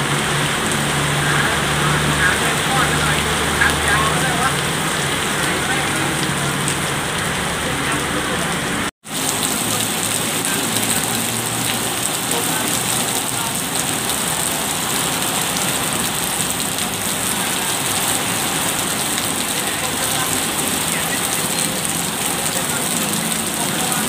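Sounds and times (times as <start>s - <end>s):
heavy rain on pavement: 0.0s - 24.0s.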